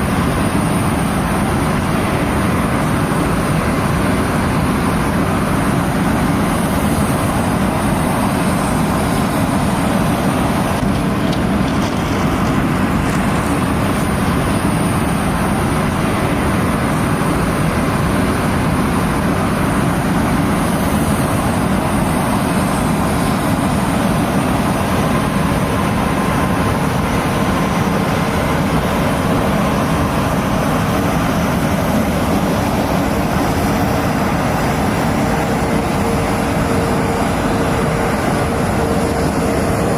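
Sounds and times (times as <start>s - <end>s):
loud steady engine: 0.0s - 39.9s.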